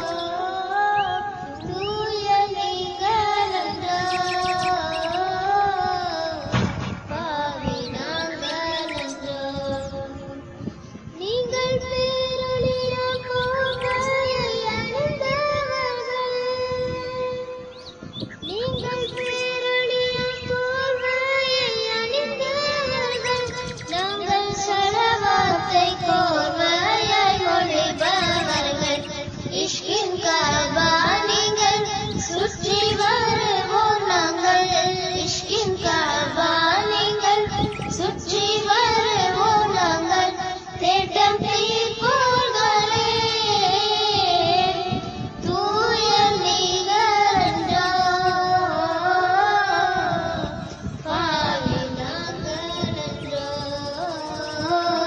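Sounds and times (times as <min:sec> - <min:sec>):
child singing: 0:00.0 - 0:55.0.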